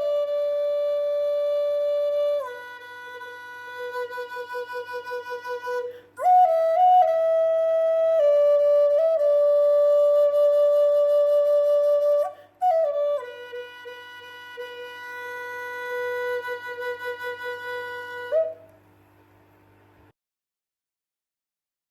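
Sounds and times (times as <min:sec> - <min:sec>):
solo flute playing: 0:00.0 - 0:18.8.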